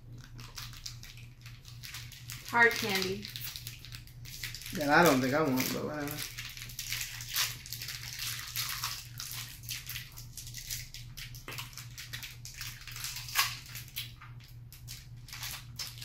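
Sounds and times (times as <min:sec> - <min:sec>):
candy wrappers crinkling: 0:00.0 - 0:16.0
low steady hum: 0:00.0 - 0:16.0.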